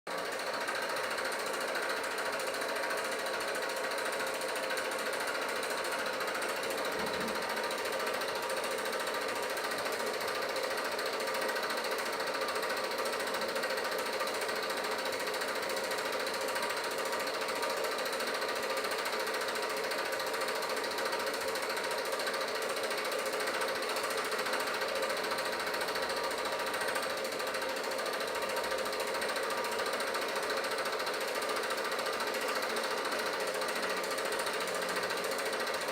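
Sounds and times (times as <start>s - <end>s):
film projector clattering: 0.1s - 35.9s.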